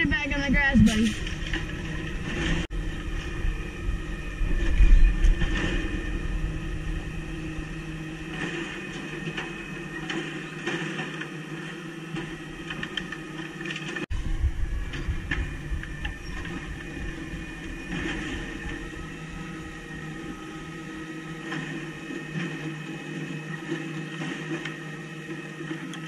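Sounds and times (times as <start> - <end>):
garbage truck engine running: 0.0 - 26.0.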